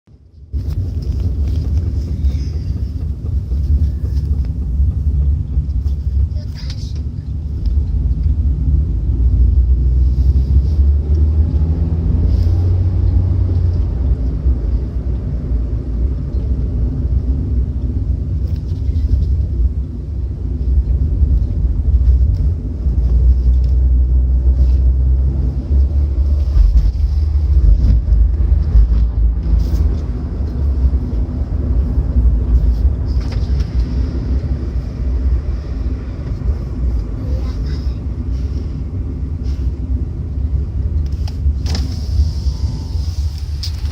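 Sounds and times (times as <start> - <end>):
car low rumble: 0.0 - 43.9.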